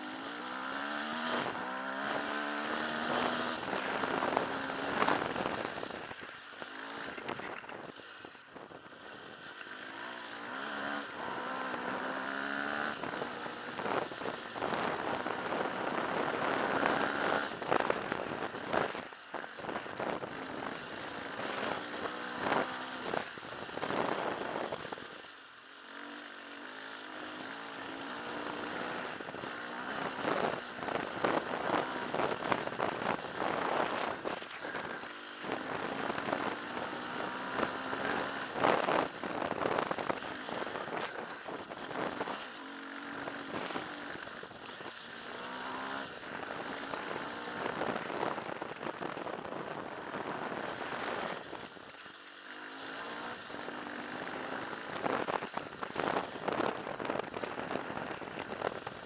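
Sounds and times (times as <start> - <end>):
motorcycle engine revving: 0.0 - 59.0
steady rush of noise: 0.0 - 59.0.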